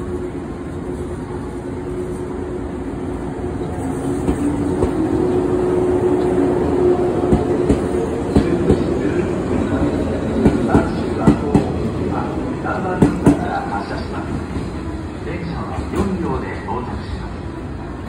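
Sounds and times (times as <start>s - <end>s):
rail rumble: 0.0s - 18.0s.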